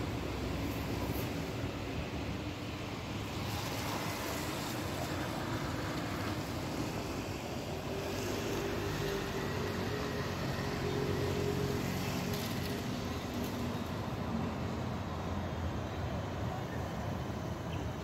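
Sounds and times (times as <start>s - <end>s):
street traffic on wet road: 0.0s - 18.0s.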